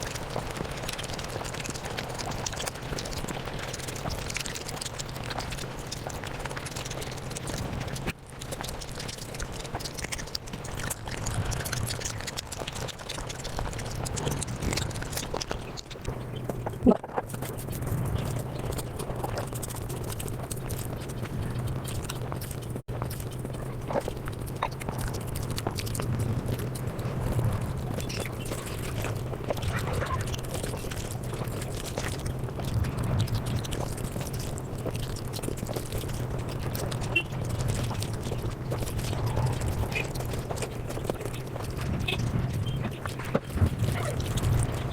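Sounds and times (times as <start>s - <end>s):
sped-up chewing and mouth smacks: 0.0s - 44.9s
steady low hum: 0.0s - 44.9s.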